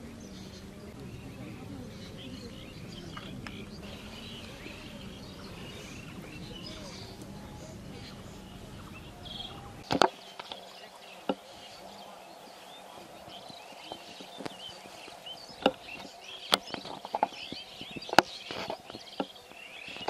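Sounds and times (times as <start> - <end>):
low background hum: 0.0 - 19.8
small birds chirping: 0.0 - 20.0.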